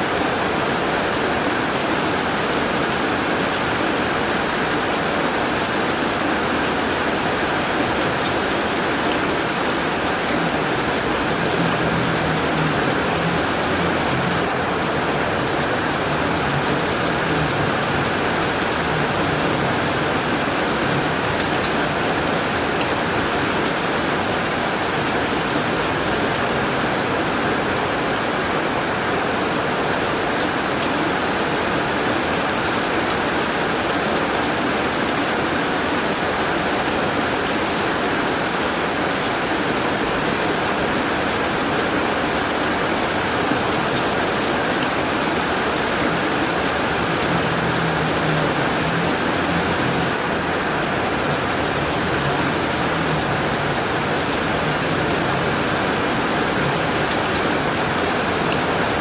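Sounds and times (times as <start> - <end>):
heavy rain on a tin roof: 0.0 - 59.0.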